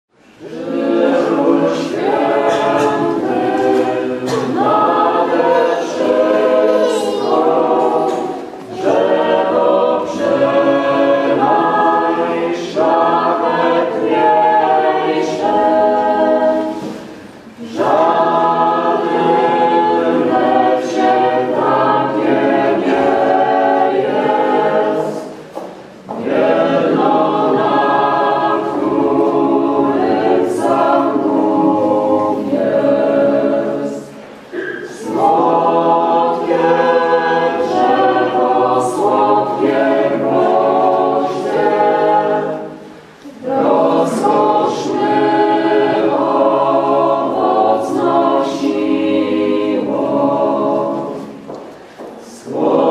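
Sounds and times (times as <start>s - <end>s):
choir singing: 0.2s - 52.9s.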